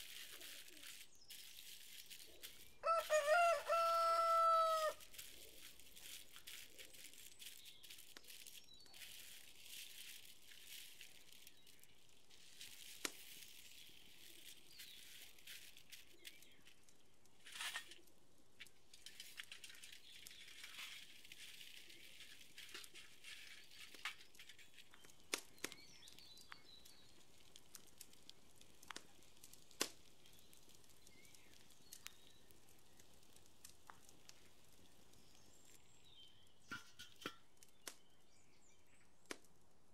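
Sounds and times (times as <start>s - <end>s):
aluminium foil crinkling: 0.0s - 39.7s
hot charcoal crackling: 0.0s - 39.9s.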